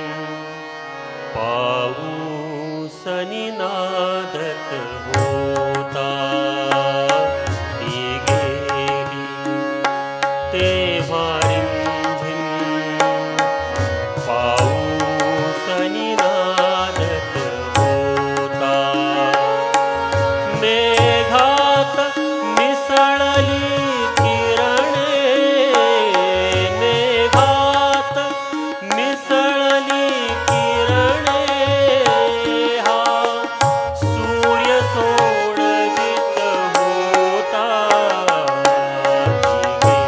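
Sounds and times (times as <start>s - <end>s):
man singing into microphone: 0.0s - 40.0s
tabla beat: 5.0s - 40.0s.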